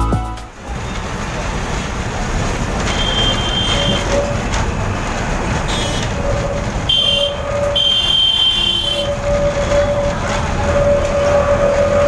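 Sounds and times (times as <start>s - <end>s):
tram wheels rumbling: 0.0s - 12.0s
wheel squeal: 0.7s - 12.0s.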